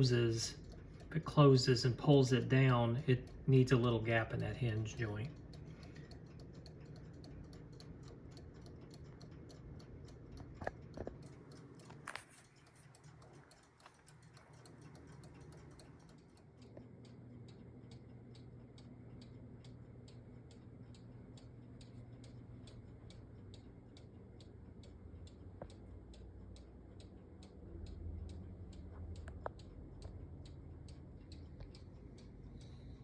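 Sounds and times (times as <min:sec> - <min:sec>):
clock ticking faintly: 0:00.0 - 0:33.0.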